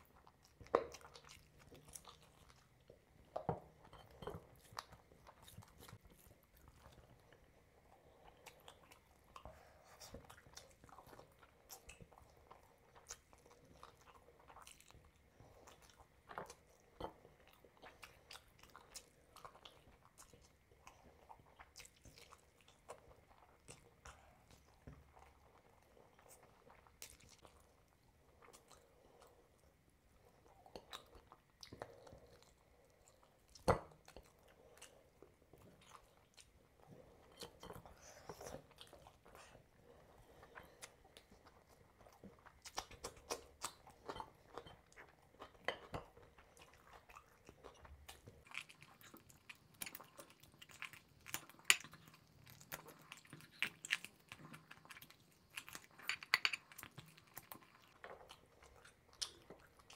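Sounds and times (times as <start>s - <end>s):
close chewing of food: 0.0s - 59.9s.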